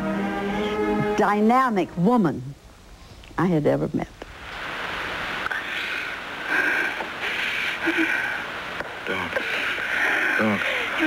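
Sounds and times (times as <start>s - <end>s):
old film soundtrack hiss: 0.0s - 11.0s.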